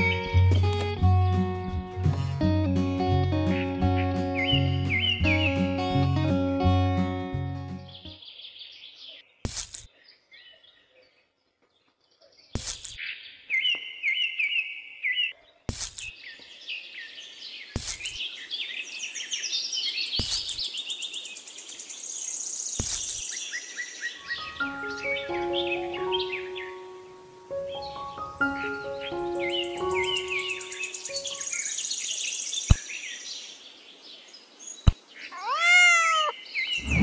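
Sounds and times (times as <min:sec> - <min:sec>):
small birds chirping and trilling: 0:03.4 - 0:05.8, 0:07.8 - 0:37.0.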